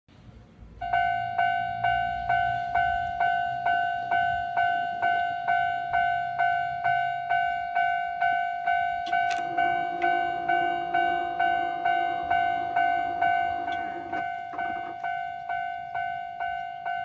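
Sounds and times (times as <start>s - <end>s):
railway crossing bell dinging: 0.8s - 17.0s.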